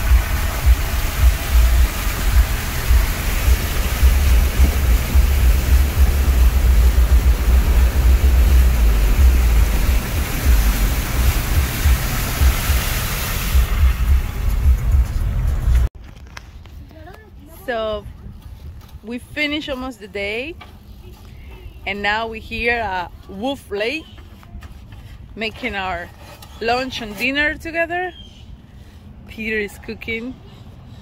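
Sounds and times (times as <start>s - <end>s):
vehicle low rumble: 0.0s - 31.0s.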